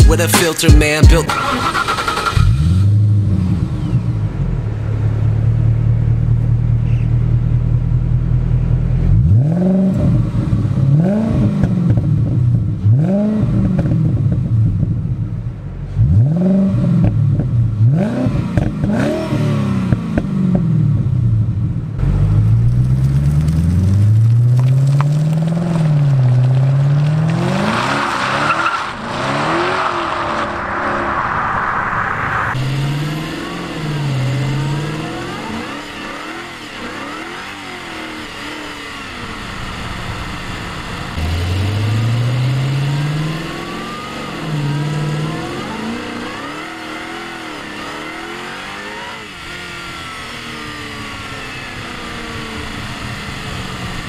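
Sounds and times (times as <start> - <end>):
car engine accelerating through gears: 1.3 - 15.2, 15.9 - 54.0.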